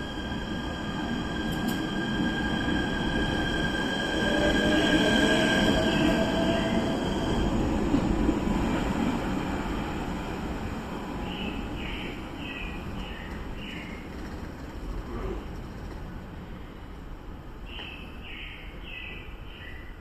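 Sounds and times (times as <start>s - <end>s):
electric train rumble: 0.0s - 17.6s.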